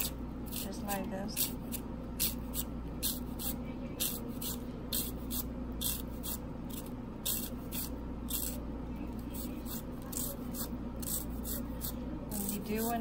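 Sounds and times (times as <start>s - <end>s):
knife slicing onion: 0.0s - 8.6s, 9.2s - 13.0s.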